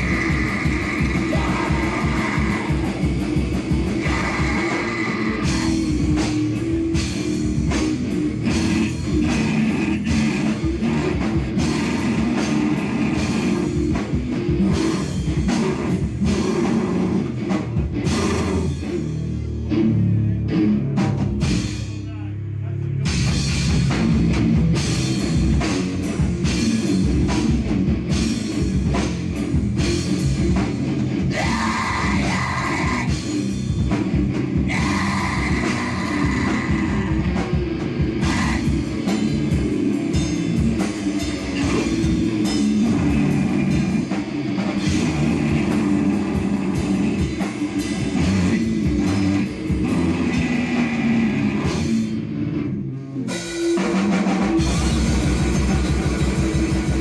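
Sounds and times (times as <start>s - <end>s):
drum kit hitting hard: 0.0s - 19.1s, 23.1s - 52.2s, 53.3s - 57.0s
live heavy rock band: 0.0s - 22.2s, 22.8s - 57.0s.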